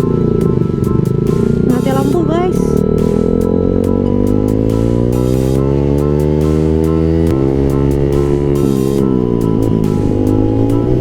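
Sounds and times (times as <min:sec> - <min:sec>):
motorcycle accelerating: 0:00.0 - 0:11.0
music: 0:00.0 - 0:11.0.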